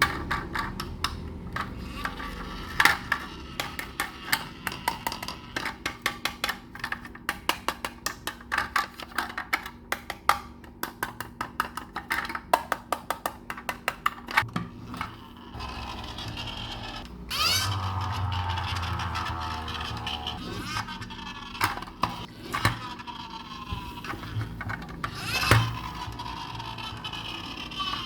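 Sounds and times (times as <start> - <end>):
toy trucks clicking and knocking: 0.0 - 28.0.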